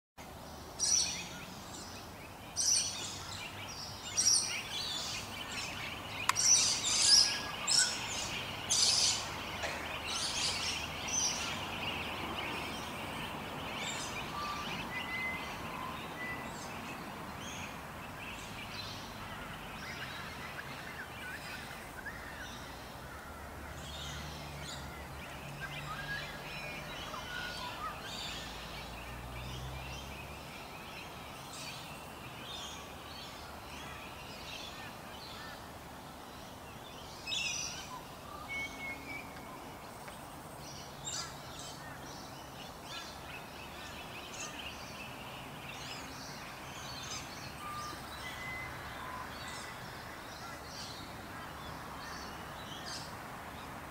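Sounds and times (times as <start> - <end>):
outdoor background noise: 0.2 - 53.9
small birds chirping: 0.3 - 53.9.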